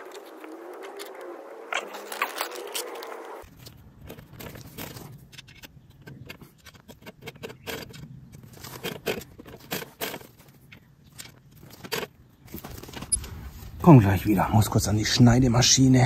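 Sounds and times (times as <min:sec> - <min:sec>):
metal parts clicking and scraping: 0:00.0 - 0:13.8.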